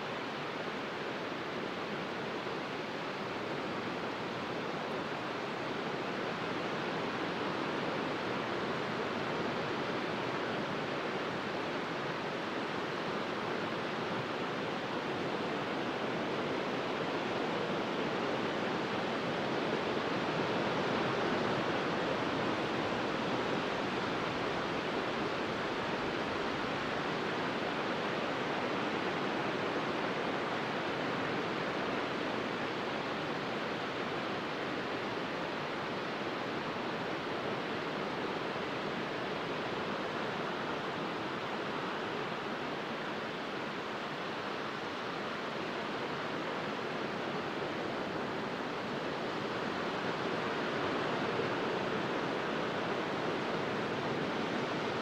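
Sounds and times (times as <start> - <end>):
small waves washing on a beach: 0.0 - 55.0.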